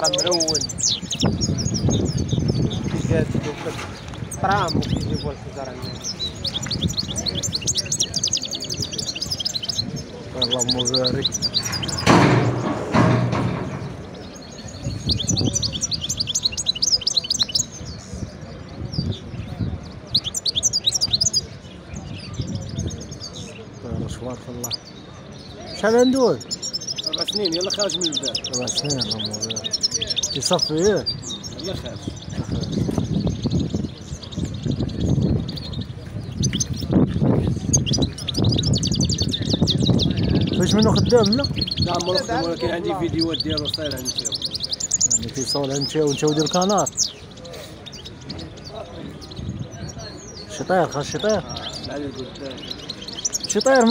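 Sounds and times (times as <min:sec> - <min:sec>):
low background din: 0:00.0 - 0:53.9
songbirds chirping and twittering: 0:00.0 - 0:53.9.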